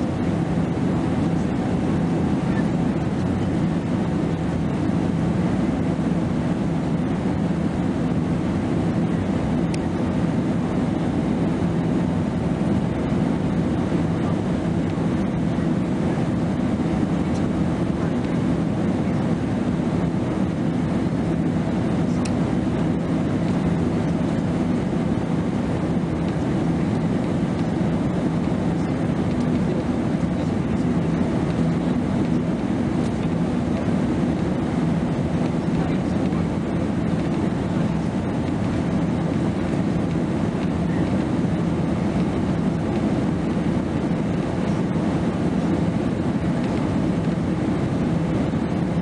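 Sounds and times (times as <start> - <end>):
airliner cabin drone: 0.0 - 49.0.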